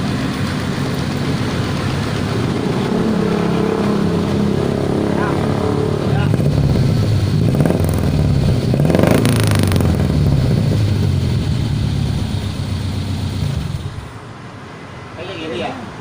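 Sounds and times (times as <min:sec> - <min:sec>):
motorcycle engine revving and idling: 0:00.0 - 0:14.2.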